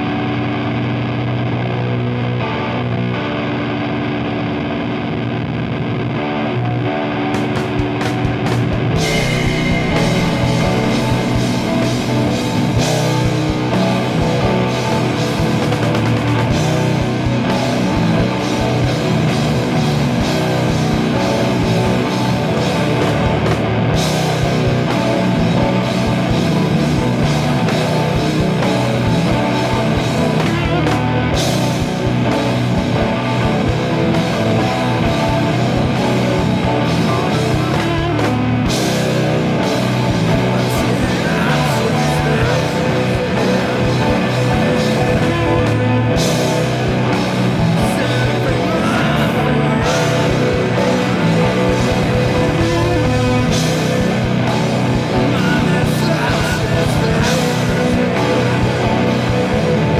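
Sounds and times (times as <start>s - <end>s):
distorted electric guitars: 0.0s - 59.9s
drum kit: 7.2s - 59.9s.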